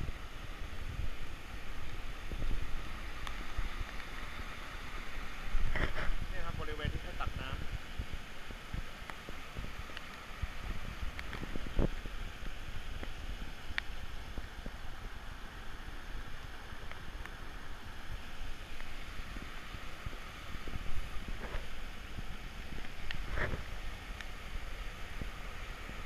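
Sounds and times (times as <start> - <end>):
stream rushing over rocks: 0.0 - 26.0
wind rumbling on microphone: 0.0 - 26.0.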